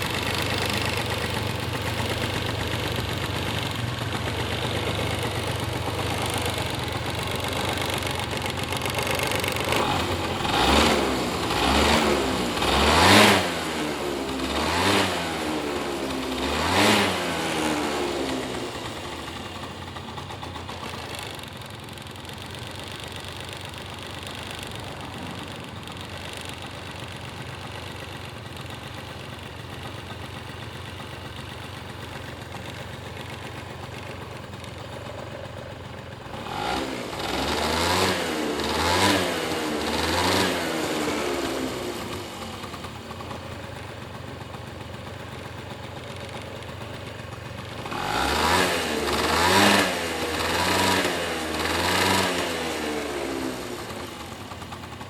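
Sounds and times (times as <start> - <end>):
scooter engine idling and revving: 0.0 - 55.0.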